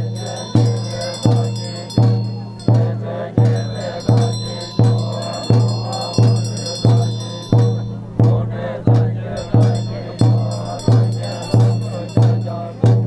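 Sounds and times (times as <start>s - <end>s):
high bell-like ringing: 0.0s - 13.0s
struck percussion with deep ringing: 0.0s - 13.0s.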